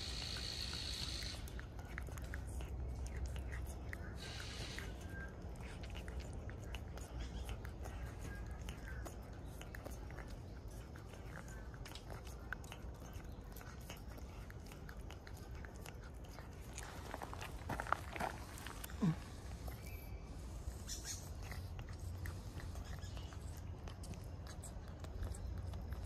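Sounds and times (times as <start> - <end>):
cat licking wet clicks: 0.0 - 17.6, 20.5 - 26.0
low steady rumble: 0.0 - 26.0.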